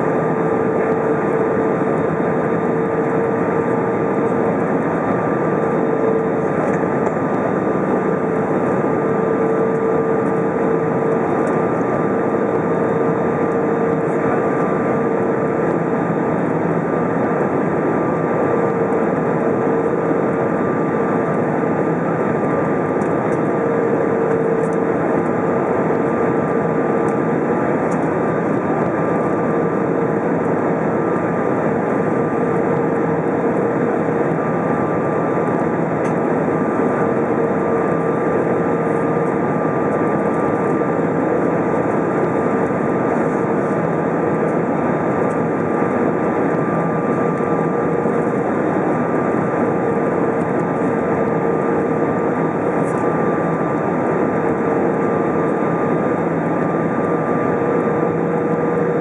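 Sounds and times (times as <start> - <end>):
jet engines and rushing air: 0.0 - 59.0.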